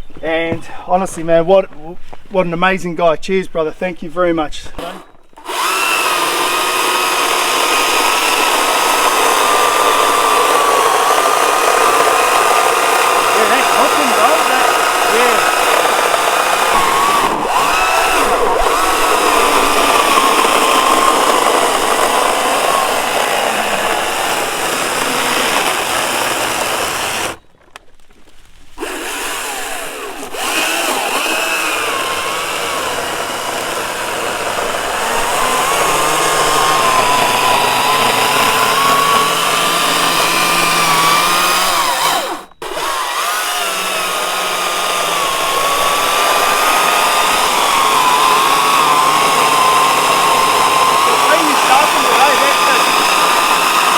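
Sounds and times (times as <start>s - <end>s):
electric chainsaw cutting branch: 4.8s - 27.4s, 28.7s - 53.9s.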